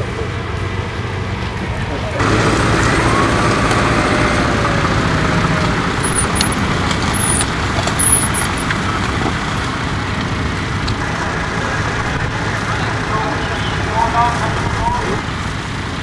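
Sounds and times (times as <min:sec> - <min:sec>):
tractor engine under load: 0:00.0 - 0:16.0.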